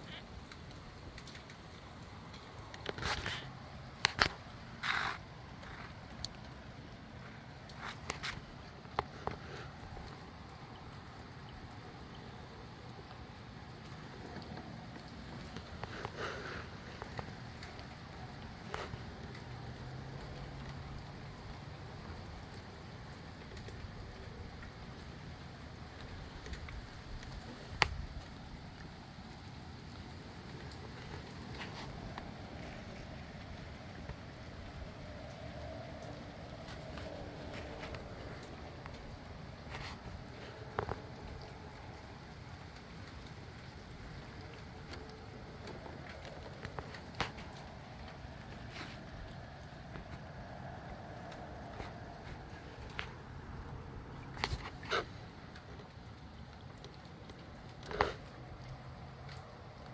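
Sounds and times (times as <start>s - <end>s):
gusty wind in trees: 0.0s - 57.6s
light rain: 0.0s - 59.9s.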